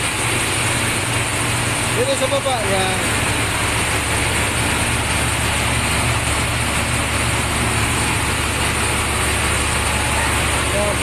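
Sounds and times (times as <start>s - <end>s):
diesel generator drone: 0.0s - 11.0s.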